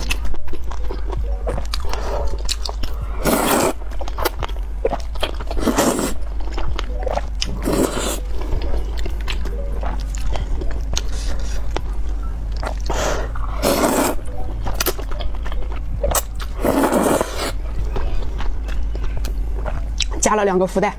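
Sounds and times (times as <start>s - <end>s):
wet chewing: 0.0s - 20.3s.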